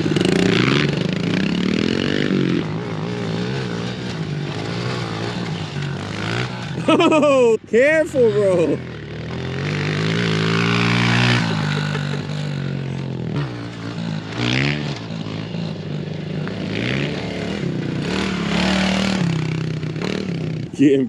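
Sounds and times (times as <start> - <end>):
small petrol engine revving: 0.0 - 7.3, 8.2 - 20.8.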